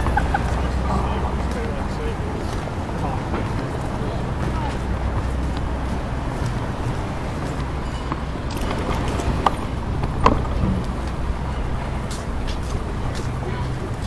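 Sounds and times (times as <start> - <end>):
traffic road rumble: 0.0 - 14.0.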